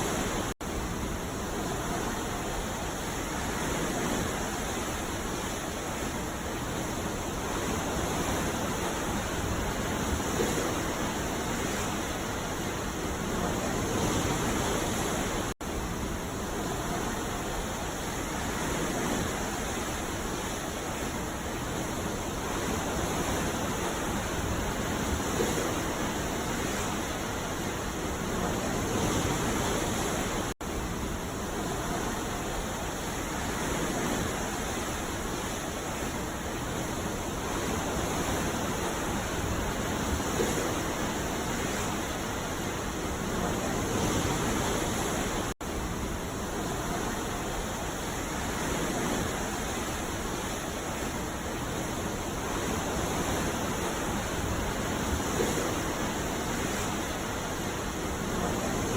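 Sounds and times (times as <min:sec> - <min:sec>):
ocean surf breaking: 0:00.0 - 0:58.9.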